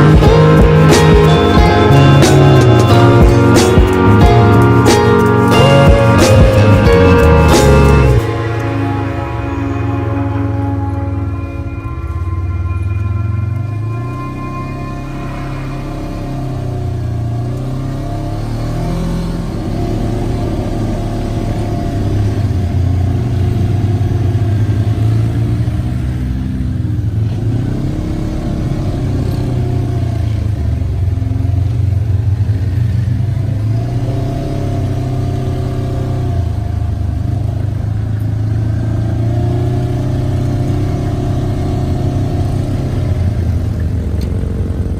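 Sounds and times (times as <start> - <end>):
off-road vehicle engine revving: 0.0 - 44.9.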